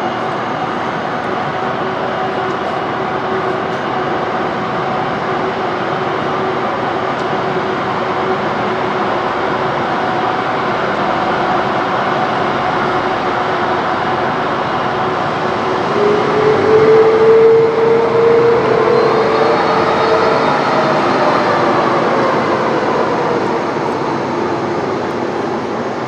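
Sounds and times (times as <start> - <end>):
jet engine rush with whine: 0.0 - 26.0.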